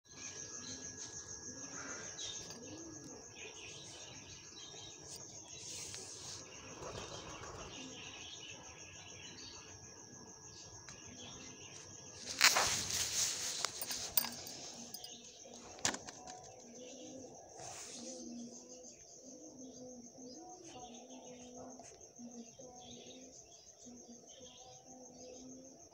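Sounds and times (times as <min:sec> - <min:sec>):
faint bird chirps: 0:00.1 - 0:25.9
high-pitched insect trill: 0:00.1 - 0:25.9.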